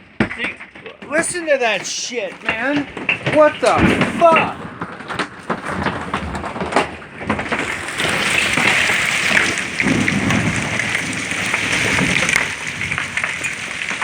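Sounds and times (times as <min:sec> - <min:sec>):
hail clattering: 0:00.0 - 0:14.0
rain falling: 0:00.1 - 0:14.0.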